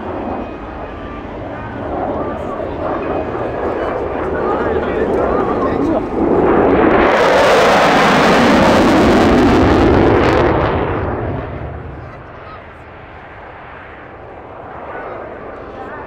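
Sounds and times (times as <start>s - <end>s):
jet engine in afterburner: 0.0s - 16.0s.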